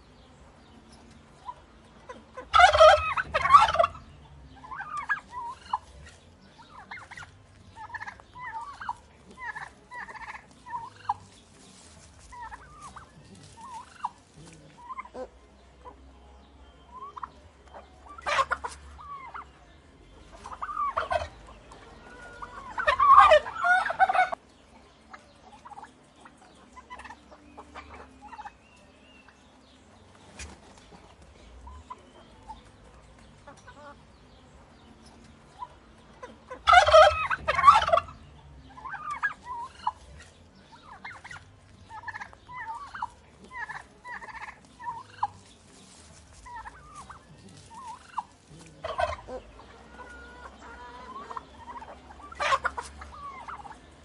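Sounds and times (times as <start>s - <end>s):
turkeys gobbling: 0.7s - 16.1s, 16.9s - 19.6s, 20.2s - 34.1s, 35.0s - 54.0s.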